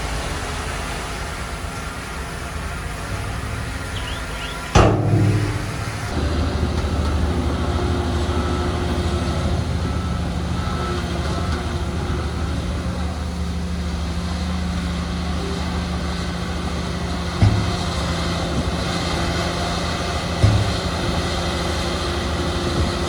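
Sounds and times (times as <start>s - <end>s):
heavy diesel machinery droning: 0.0s - 23.0s.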